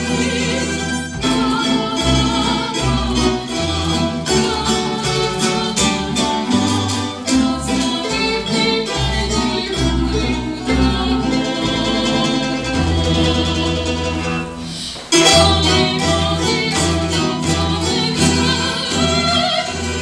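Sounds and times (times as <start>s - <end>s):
plucked tremolo melody: 0.0s - 19.6s.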